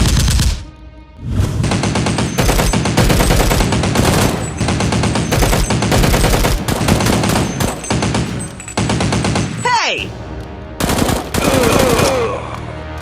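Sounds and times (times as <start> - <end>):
rapid automatic gunfire: 0.0 - 0.6, 1.6 - 10.2, 10.8 - 12.2.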